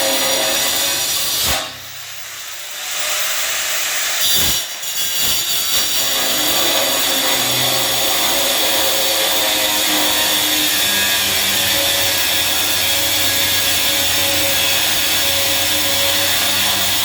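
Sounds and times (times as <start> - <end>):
power tool cutting: 0.0 - 17.0.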